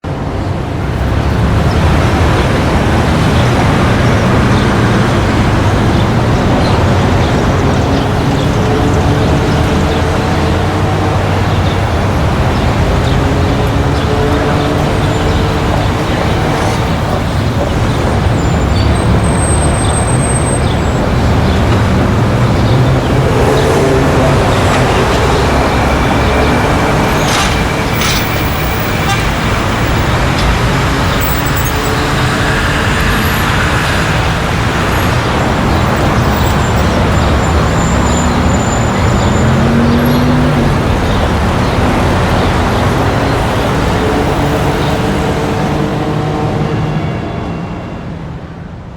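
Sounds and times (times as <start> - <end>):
traffic driving past: 0.0 - 48.9
vehicle engine revving: 0.8 - 46.8.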